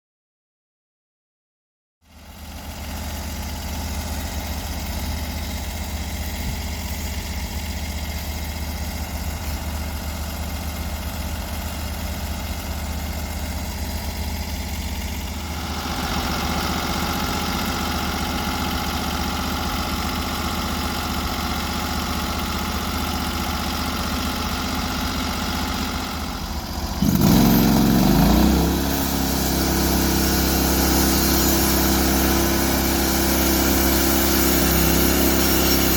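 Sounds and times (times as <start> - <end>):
sawmill gas engine running: 2.0 - 35.9.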